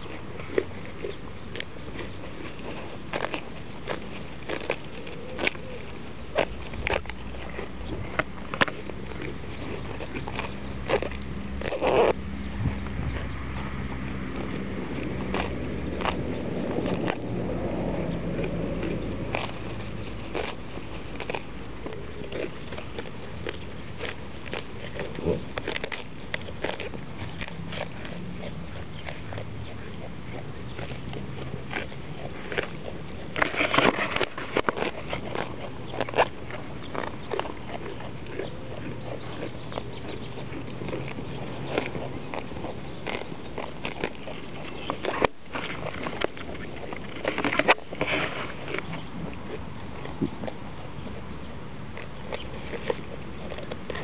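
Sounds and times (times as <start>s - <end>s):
goats chewing: 0.0s - 54.0s
goats tearing grass: 0.0s - 54.0s.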